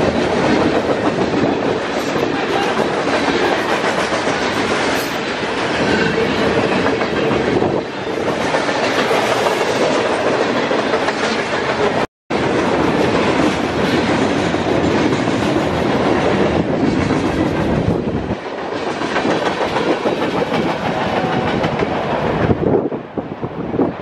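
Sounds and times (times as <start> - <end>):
steel wheels clattering on rails: 0.0 - 22.6
freight train rumbling past: 0.0 - 24.0.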